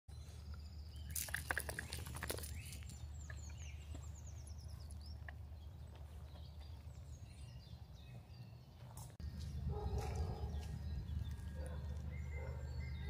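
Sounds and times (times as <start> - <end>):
songbird chirping: 0.1 - 13.0.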